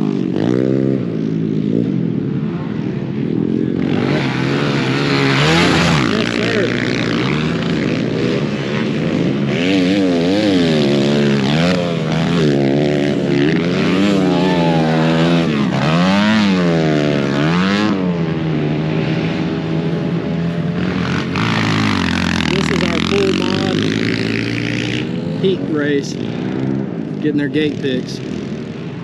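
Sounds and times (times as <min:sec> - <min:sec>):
dirt bike engines revving: 0:00.0 - 0:29.0
steady engine drone: 0:00.0 - 0:29.0.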